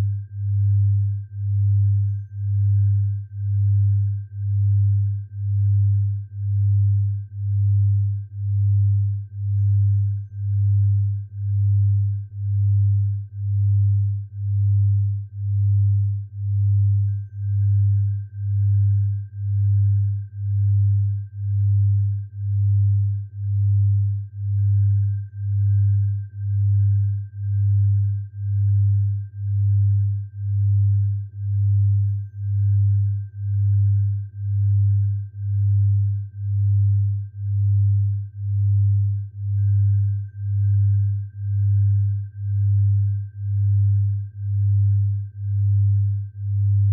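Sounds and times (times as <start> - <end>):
deep pulsing hum: 0.0 - 46.9
faint high whistle-like tone: 0.0 - 46.9.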